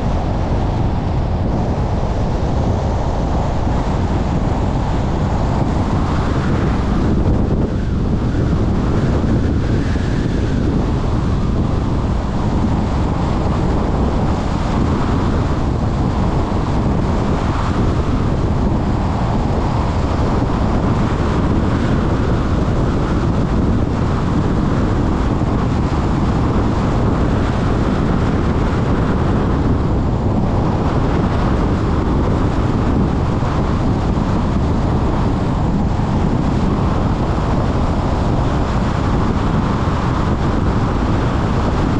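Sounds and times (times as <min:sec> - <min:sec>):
car road and wind noise: 0:00.0 - 0:41.9
wind buffeting microphone: 0:00.0 - 0:41.9.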